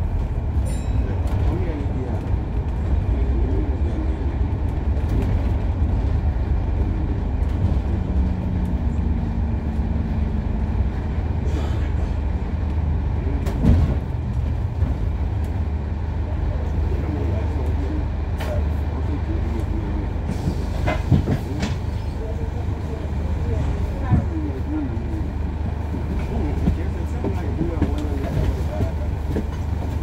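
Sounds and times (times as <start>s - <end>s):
bus drivetrain and road rumble: 0.0s - 30.0s.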